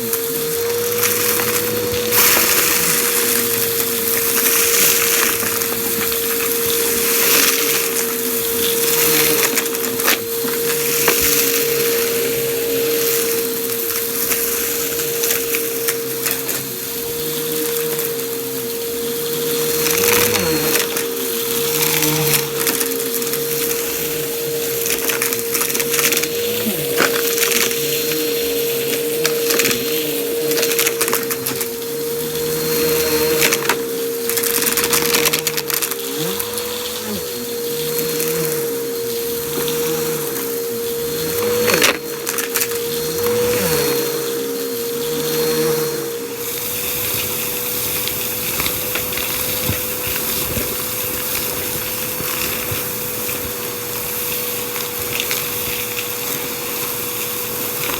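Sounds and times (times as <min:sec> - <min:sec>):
debris crackling through hose: 0:00.0 - 0:57.9
vacuum cleaner humming: 0:00.0 - 0:57.9.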